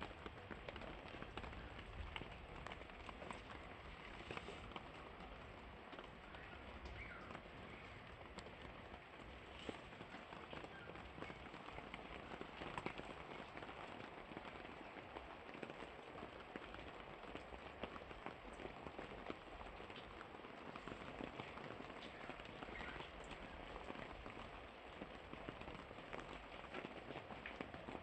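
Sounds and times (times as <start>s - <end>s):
rain falling: 0.0s - 28.0s
raindrop ticks: 0.0s - 28.0s.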